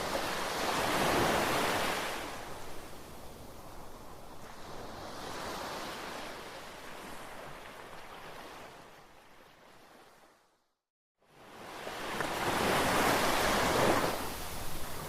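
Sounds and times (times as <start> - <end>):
ocean waves on shore: 0.0 - 10.5, 11.3 - 15.0.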